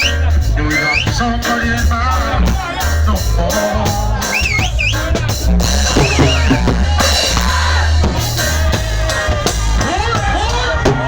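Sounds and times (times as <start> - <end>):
drum kit beat: 0.0 - 11.0
heavy bass line: 0.0 - 11.0.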